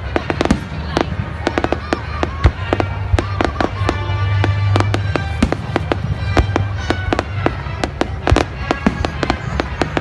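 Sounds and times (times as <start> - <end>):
fireworks bangs and crackles: 0.0 - 10.0
music playing: 0.0 - 10.0.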